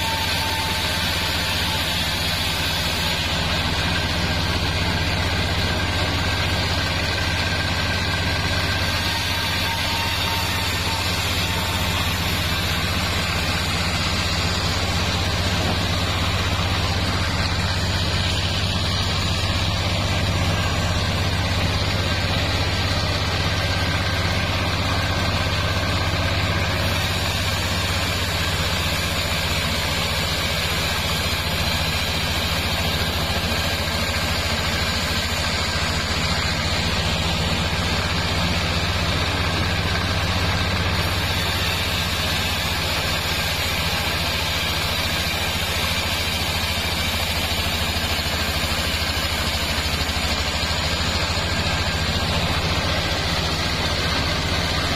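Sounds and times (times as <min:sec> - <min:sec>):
bandsaw mill droning: 0:00.0 - 0:54.9.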